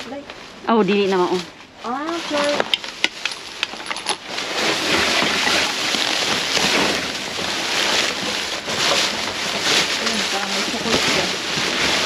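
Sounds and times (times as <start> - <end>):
rustling of trash bags: 0.0 - 12.0.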